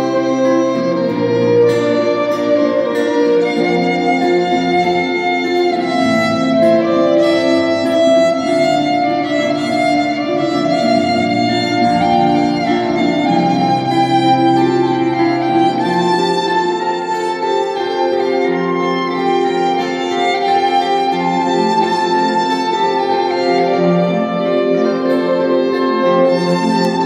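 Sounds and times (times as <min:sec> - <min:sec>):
acoustic guitar accompaniment: 0:00.0 - 0:27.0
violin slow melody: 0:00.0 - 0:27.0.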